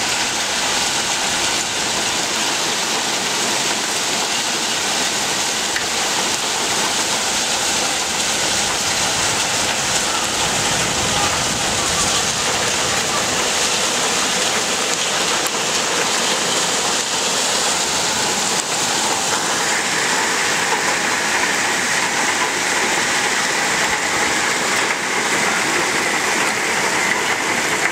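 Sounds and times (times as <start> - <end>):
heavy rain and hail: 0.0 - 27.9.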